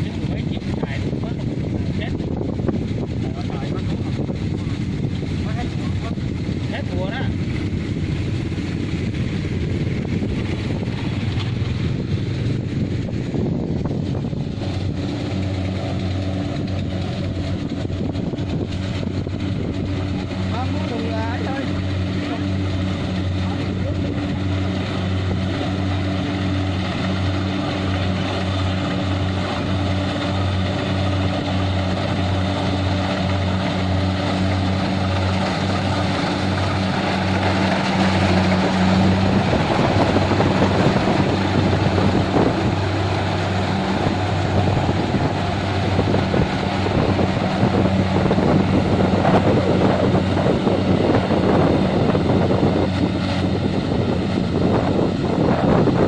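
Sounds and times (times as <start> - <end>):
harvesting machine engine hum: 0.0 - 56.0
loud rushing noise: 0.0 - 56.0.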